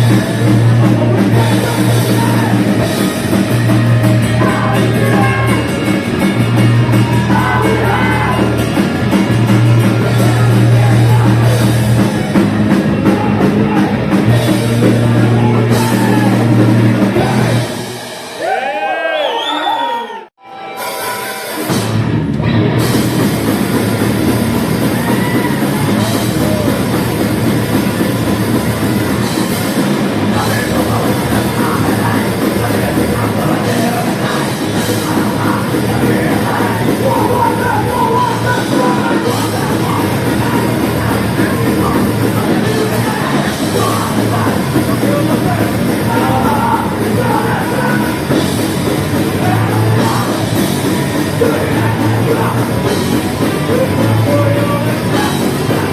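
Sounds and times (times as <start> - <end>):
live metal band playing: 0.0 - 19.0, 20.4 - 55.9.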